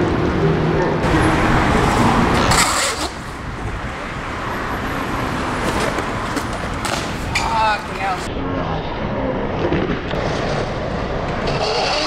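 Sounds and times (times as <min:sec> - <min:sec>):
skateboard wheels rolling on concrete: 0:00.0 - 0:08.3, 0:09.6 - 0:12.0.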